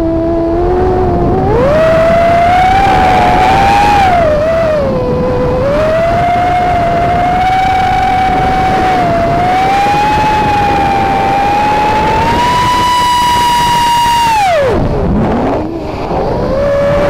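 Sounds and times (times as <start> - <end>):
drone motors whining: 0.0 - 17.0
wind noise: 0.0 - 17.0.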